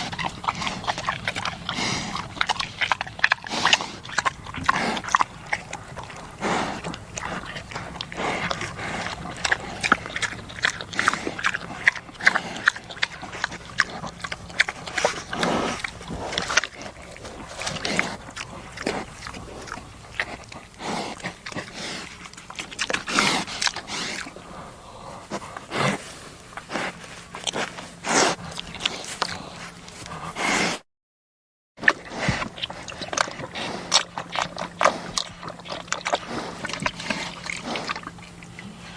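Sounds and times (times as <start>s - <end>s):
pigs chomping: 0.0s - 30.8s, 31.8s - 38.9s
pigs grunting: 0.0s - 30.8s, 31.8s - 38.9s.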